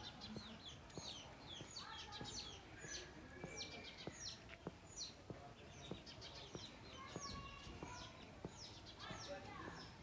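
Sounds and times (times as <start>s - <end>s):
footsteps on dirt path: 0.0s - 10.0s
small birds chirping: 0.0s - 10.0s.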